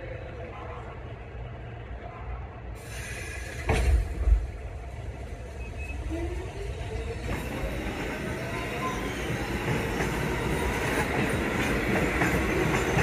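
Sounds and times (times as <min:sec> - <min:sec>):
subway train wheels rumbling on rails: 0:00.0 - 0:13.0.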